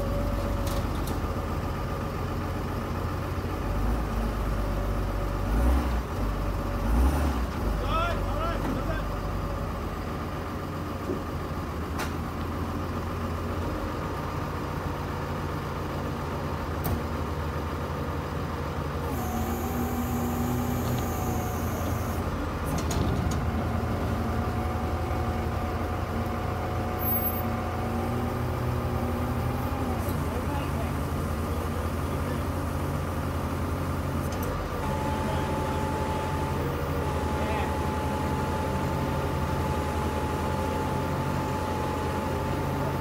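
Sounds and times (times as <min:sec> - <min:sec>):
tow truck engine running: 0:00.0 - 0:43.0.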